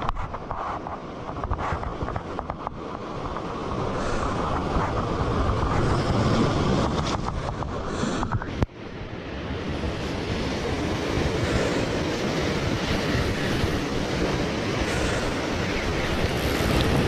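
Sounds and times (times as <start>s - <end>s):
surf washing over rocks: 0.0s - 17.0s
wind buffeting microphone: 0.0s - 17.0s.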